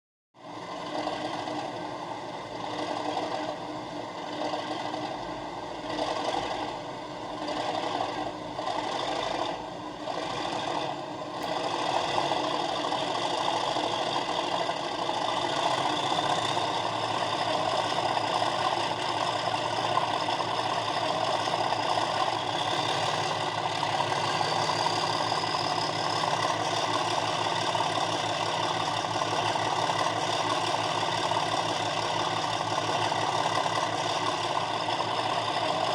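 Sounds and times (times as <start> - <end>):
diesel engine through small speaker: 0.4 - 35.9.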